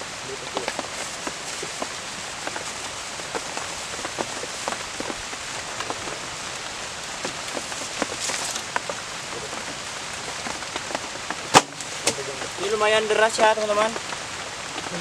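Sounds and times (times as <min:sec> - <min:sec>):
heavy rain falling: 0:00.0 - 0:15.0
sharp taps of raindrops: 0:00.2 - 0:15.0.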